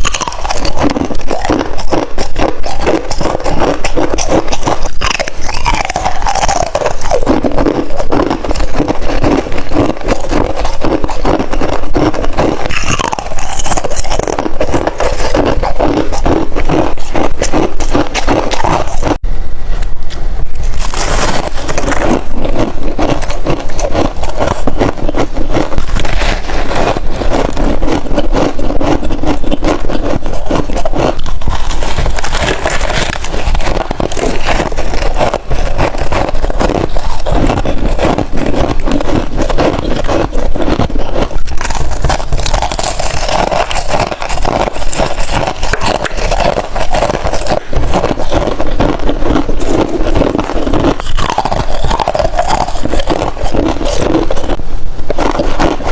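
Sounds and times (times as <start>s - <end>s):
chewing crunchy frost: 0.0s - 19.2s, 20.5s - 55.9s.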